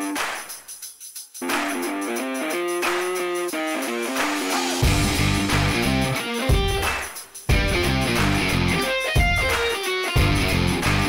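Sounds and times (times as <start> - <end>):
electric guitar melody: 1.4 - 11.0.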